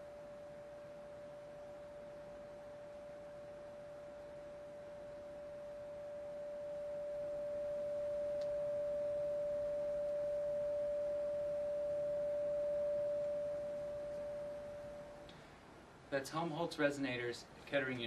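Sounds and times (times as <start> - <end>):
sine test tone from loudspeaker: 0.0 - 15.3.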